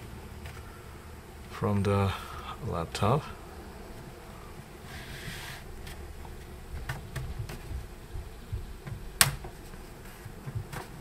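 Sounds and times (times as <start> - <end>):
handling rumble: 0.0 - 11.0.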